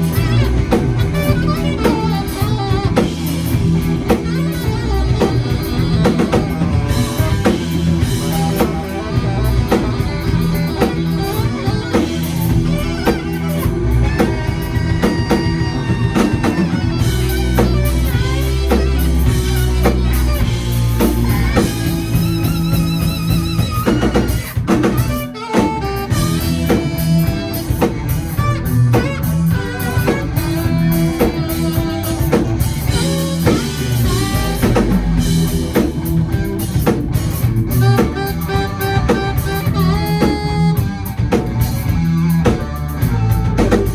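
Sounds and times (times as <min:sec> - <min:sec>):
drum kit: 0:00.0 - 0:43.9
electric guitar with bent notes: 0:00.0 - 0:43.9
steady low bass: 0:00.0 - 0:43.9.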